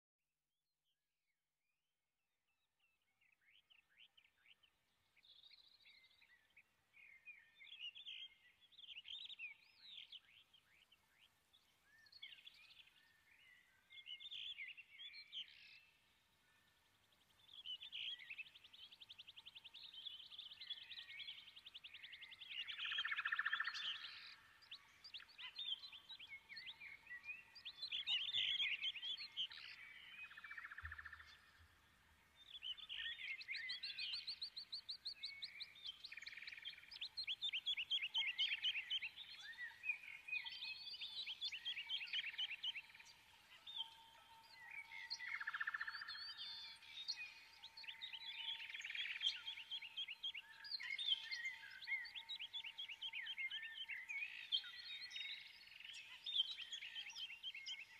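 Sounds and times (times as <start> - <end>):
birds singing with trills: 3.3 - 57.9.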